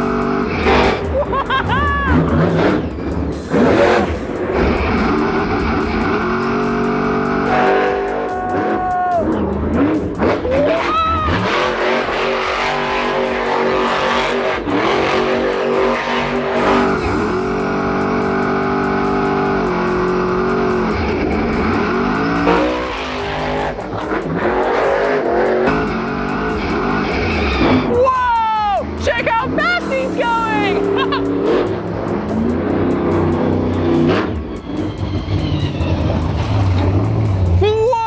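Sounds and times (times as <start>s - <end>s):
background music: 0.0s - 38.0s
truck engine revving: 0.0s - 38.0s.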